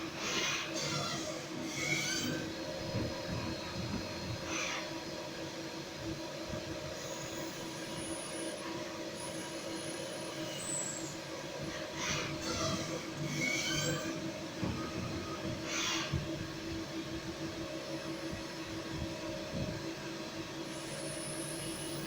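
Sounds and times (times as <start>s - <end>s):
machine mechanical hum: 0.0s - 22.0s.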